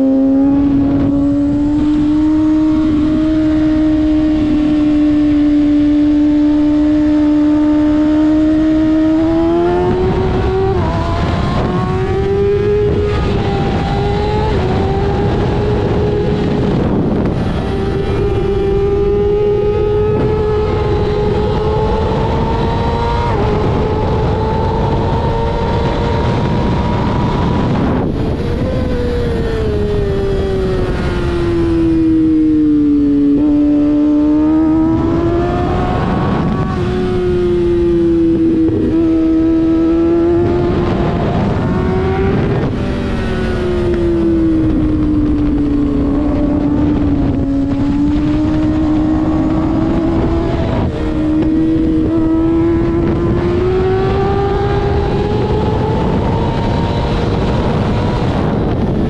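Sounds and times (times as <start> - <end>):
motorcycle engine revving hard: 0.0 - 59.0
wind rushing over microphone: 0.0 - 59.0.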